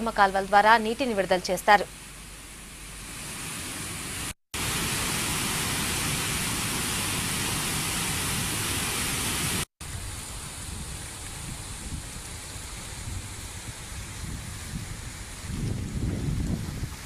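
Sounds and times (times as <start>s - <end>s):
floodwater rushing: 2.8s - 17.0s.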